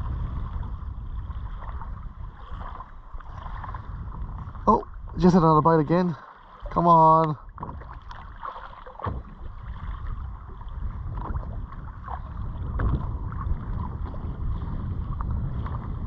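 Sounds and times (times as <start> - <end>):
water lapping against kayak hull: 0.0 - 16.0
wind buffeting microphone: 0.0 - 16.0.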